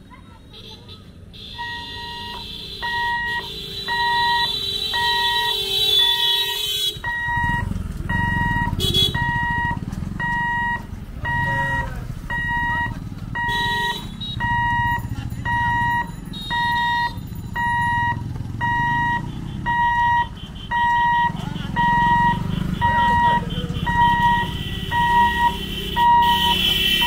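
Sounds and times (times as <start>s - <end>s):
motorcycle engines: 0.0s - 27.0s
level crossing alarm beeping: 1.6s - 6.3s, 7.0s - 13.7s, 14.3s - 27.0s.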